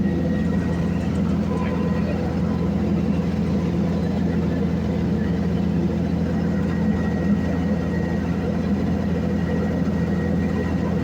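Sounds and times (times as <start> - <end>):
heavy machinery engine humming: 0.0 - 11.0.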